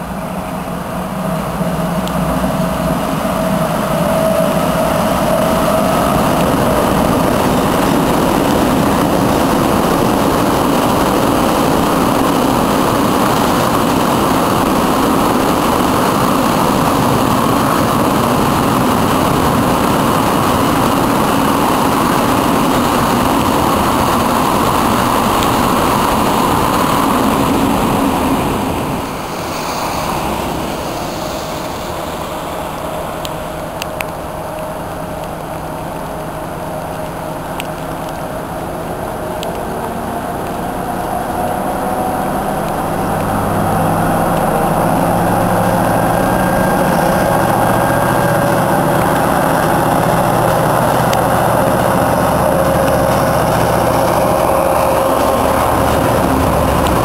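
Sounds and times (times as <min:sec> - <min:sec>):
locomotive hum: 0:00.0 - 0:57.0
steel wheels rolling on rail: 0:00.0 - 0:57.0.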